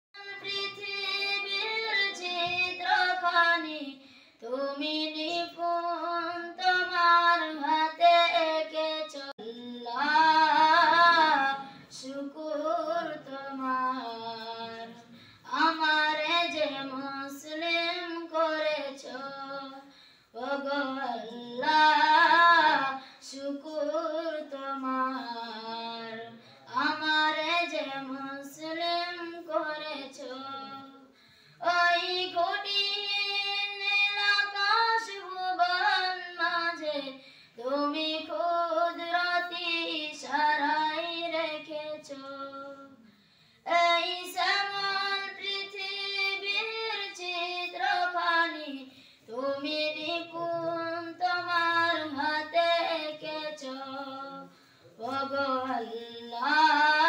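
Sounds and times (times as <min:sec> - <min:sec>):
boy singing unaccompanied: 0:00.2 - 0:43.0, 0:43.7 - 0:57.0.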